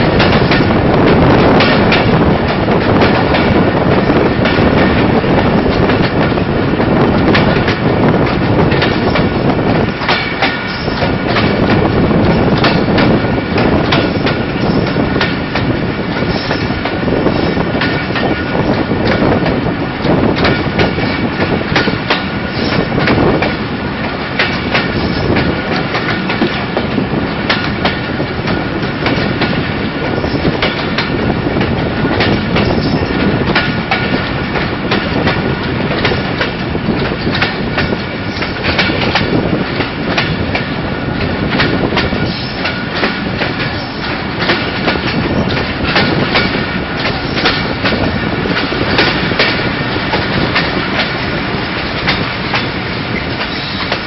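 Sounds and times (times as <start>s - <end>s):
train rolling rush: 0.0s - 54.0s
train wheels clattering over rail joints: 0.0s - 54.0s.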